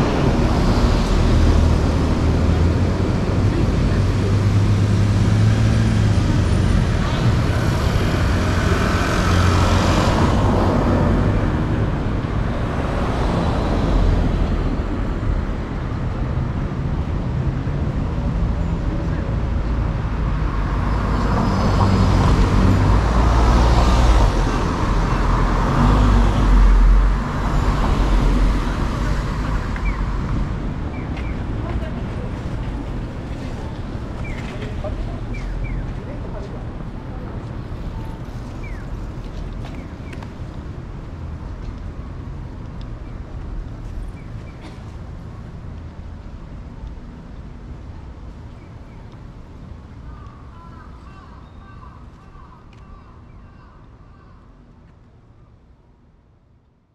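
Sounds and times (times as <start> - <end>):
cars passing by: 0.0 - 56.4.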